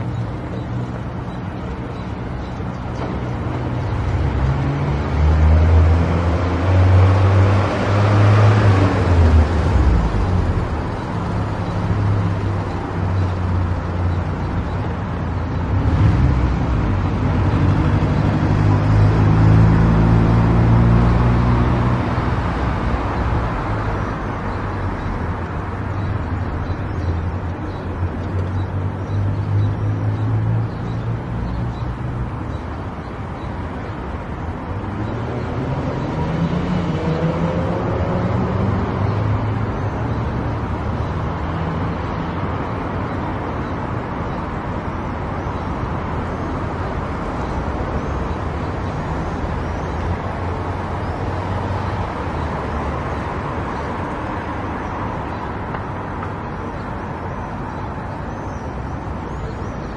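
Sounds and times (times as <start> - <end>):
tyre and road noise: 0.0 - 59.9.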